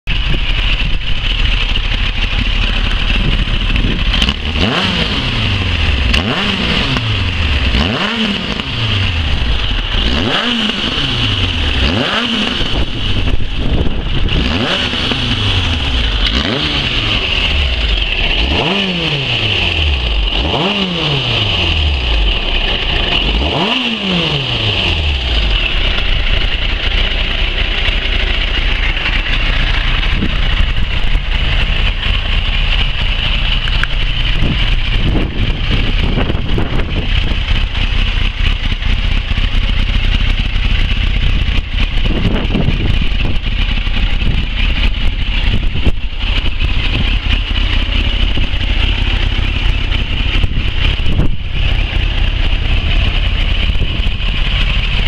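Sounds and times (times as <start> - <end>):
motorcycle engine revving: 0.1 - 55.0.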